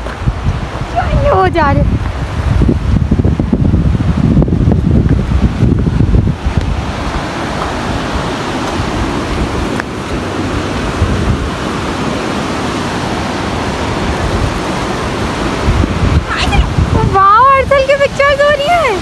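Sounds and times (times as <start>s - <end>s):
river water rushing over rocks: 0.0s - 19.0s
wind buffeting microphone: 0.0s - 19.0s.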